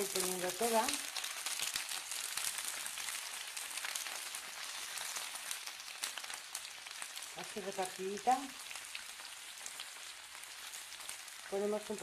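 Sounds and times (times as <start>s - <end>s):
lettuce sizzling in oil: 0.0s - 12.0s.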